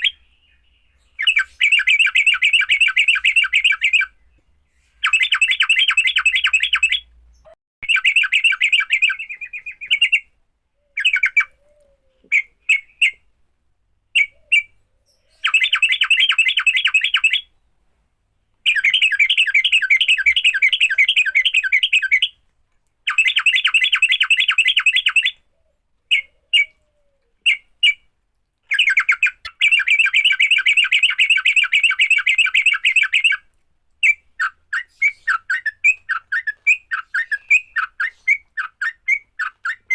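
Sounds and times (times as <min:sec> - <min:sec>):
bulbul chattering song: 0:00.0 - 0:13.2, 0:14.2 - 0:17.5, 0:18.6 - 0:22.4, 0:23.1 - 0:25.4, 0:27.5 - 0:39.9.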